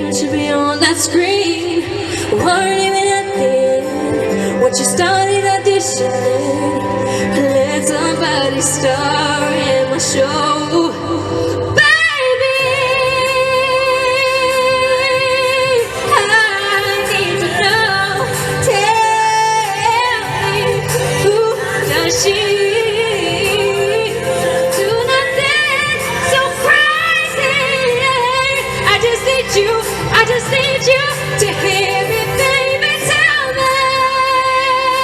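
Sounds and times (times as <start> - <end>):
backing music: 0.0 - 35.0
woman singing pop song: 0.0 - 35.0.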